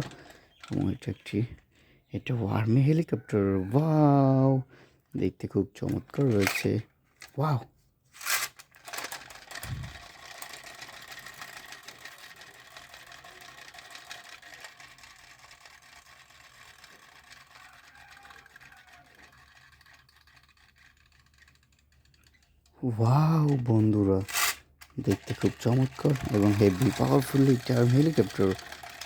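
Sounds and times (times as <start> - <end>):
toy helicopter mechanism whirring: 0.0 - 1.7, 5.8 - 7.6, 8.2 - 29.0.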